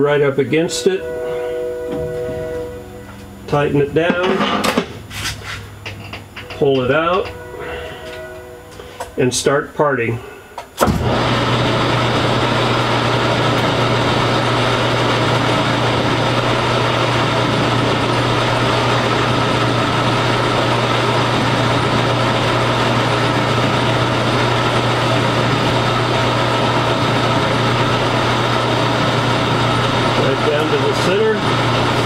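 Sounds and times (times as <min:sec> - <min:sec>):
metal lathe humming: 0:00.0 - 0:05.1, 0:05.7 - 0:09.8, 0:10.9 - 0:32.0.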